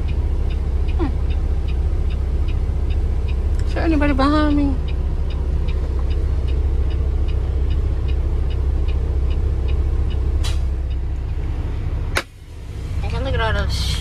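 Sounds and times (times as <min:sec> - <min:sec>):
diesel truck engine running: 0:00.0 - 0:14.0
turn signal clicking: 0:00.0 - 0:14.0.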